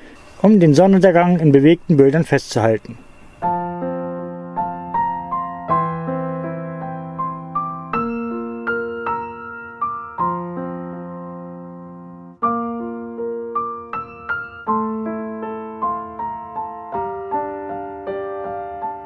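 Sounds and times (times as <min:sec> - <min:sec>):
gentle piano piece: 0:00.0 - 0:19.0.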